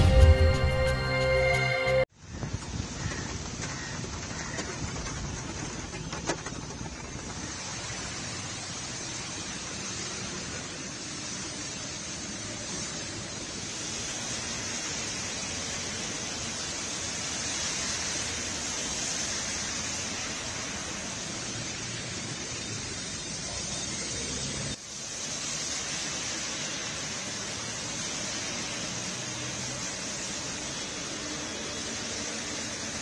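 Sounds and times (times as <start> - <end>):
rain hiss: 0.0 - 33.0
traffic: 0.0 - 33.0.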